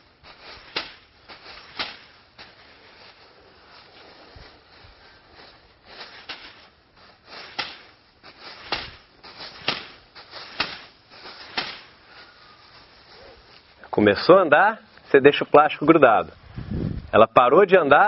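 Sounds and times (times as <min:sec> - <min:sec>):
plastic bag rustling and crackling: 0:00.0 - 0:15.2.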